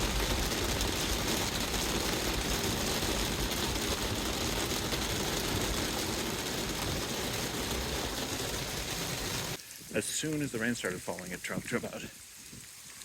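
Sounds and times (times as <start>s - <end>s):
rain and hail falling: 0.0s - 13.0s.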